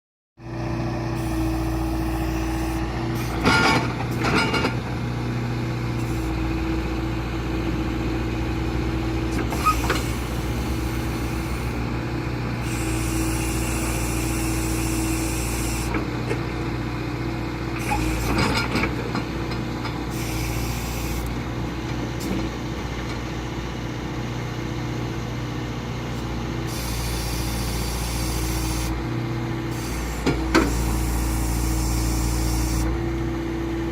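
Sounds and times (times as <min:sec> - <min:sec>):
loader engine running: 0:00.4 - 0:33.9.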